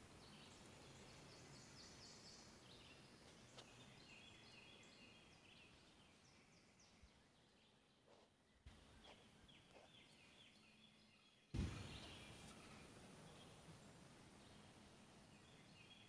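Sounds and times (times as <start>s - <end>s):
faint birdsong: 0.0s - 16.0s
soft outdoor hiss: 0.0s - 16.0s.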